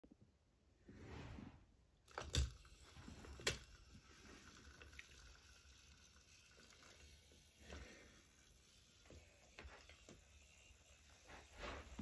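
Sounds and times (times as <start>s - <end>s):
toy train motor humming: 2.1s - 12.0s.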